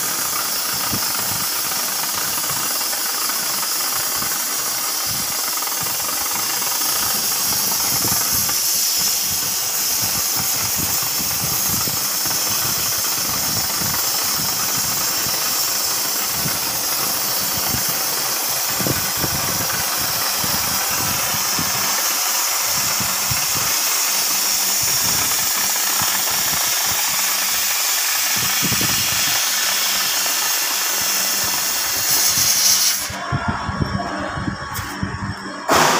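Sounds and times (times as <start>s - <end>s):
cutting torch hissing: 0.0s - 35.9s.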